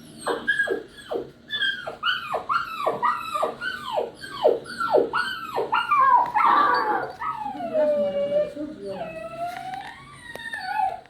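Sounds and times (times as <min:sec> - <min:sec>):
puppy yelping: 0:00.1 - 0:11.0.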